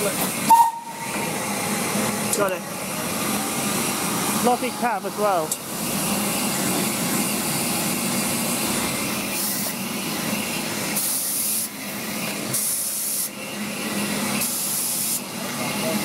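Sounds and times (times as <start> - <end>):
sharp bursts of steam hiss: 0.0 - 15.4
steam locomotive hissing: 0.0 - 16.0.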